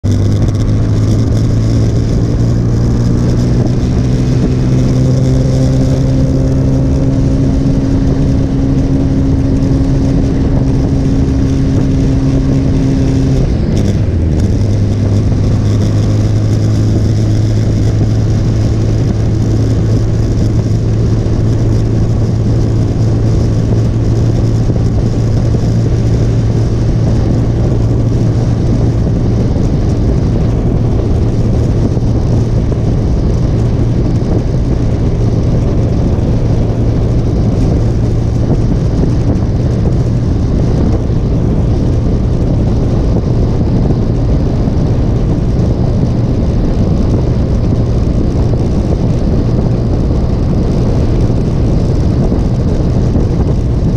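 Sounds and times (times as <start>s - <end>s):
motorcycle engine running: 0.0s - 53.9s
wind rushing: 0.0s - 53.9s.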